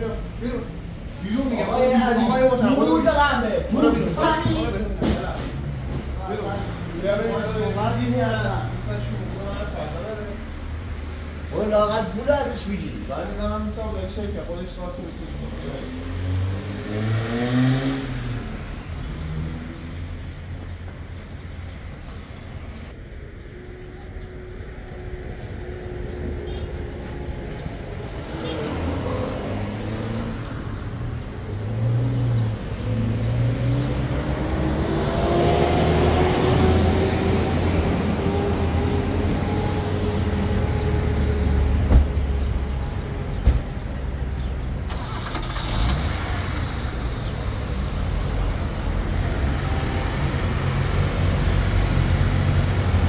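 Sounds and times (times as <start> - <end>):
engines revving: 0.0 - 23.0, 24.6 - 53.0
car engines driving by: 0.0 - 53.0.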